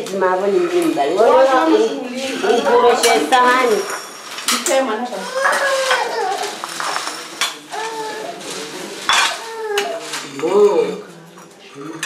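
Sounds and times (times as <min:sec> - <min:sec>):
people talking: 0:00.0 - 0:12.0
plates and basins clattering: 0:00.0 - 0:12.0.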